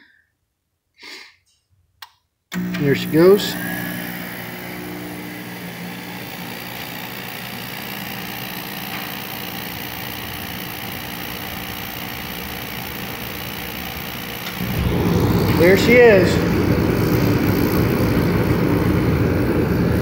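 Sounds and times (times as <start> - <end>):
heater fan and burner rushing: 2.6 - 20.0.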